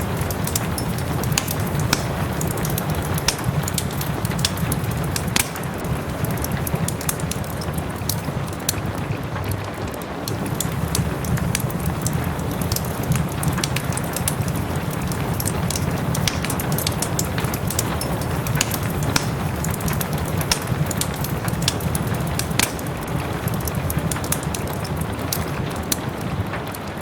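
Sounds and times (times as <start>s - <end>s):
soft rain hiss: 0.0s - 27.0s
wood fire crackling and popping: 0.0s - 27.0s.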